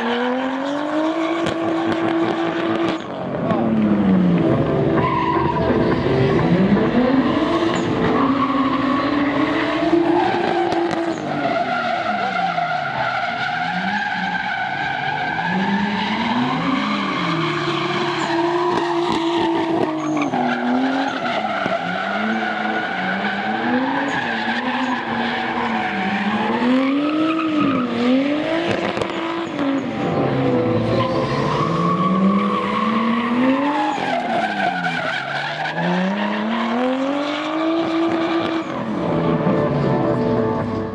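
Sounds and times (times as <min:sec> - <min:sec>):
car engine revving: 0:00.0 - 0:40.9
tyres skidding and screeching: 0:00.0 - 0:40.9.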